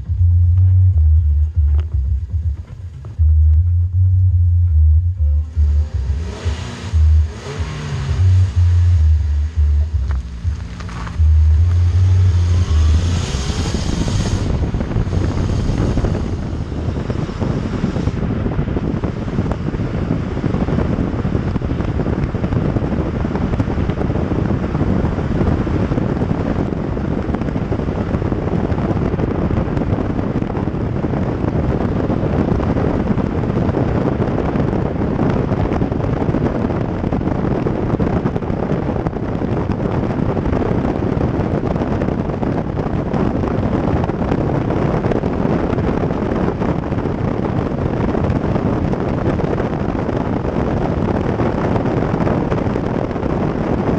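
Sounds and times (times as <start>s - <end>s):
tyre and road noise: 0.0s - 53.9s
wind rushing over microphone: 0.0s - 53.9s.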